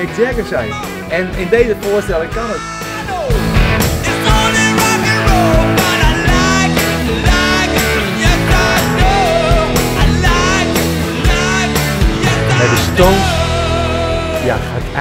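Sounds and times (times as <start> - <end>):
drums: 0.0 - 15.0
electric guitars: 0.0 - 15.0
man singing: 0.0 - 15.0
piano: 0.0 - 15.0.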